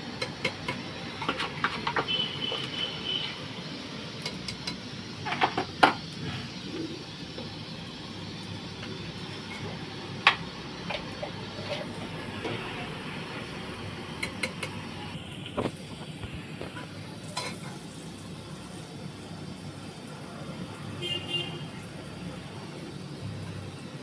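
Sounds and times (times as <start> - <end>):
pressure cooker hissing: 0.0 - 24.0.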